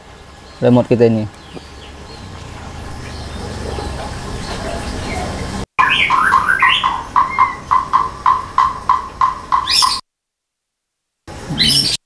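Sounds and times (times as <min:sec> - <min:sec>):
bird calling: 0:00.0 - 0:10.0, 0:11.5 - 0:12.0.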